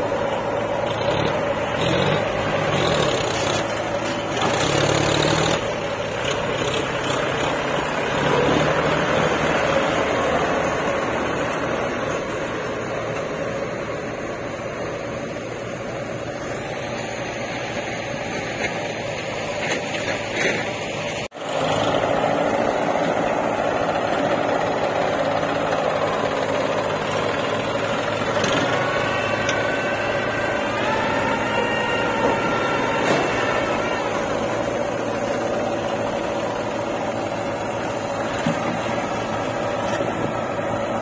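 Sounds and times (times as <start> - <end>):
backhoe engine note climbing: 0.0 - 41.0
diesel engines running: 0.0 - 41.0.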